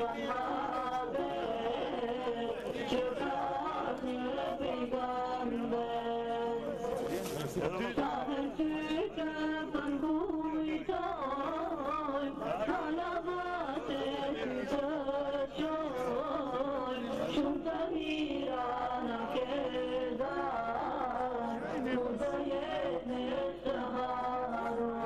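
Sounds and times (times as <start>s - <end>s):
person chanting: 0.0s - 25.0s.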